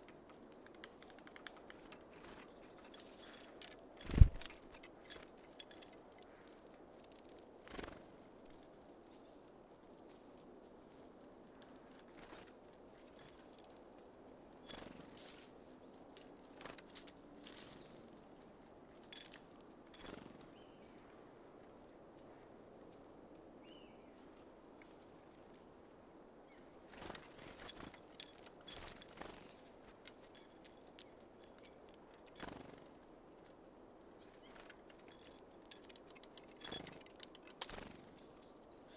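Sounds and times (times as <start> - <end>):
small birds chirping: 0.0 - 33.0, 34.0 - 38.9.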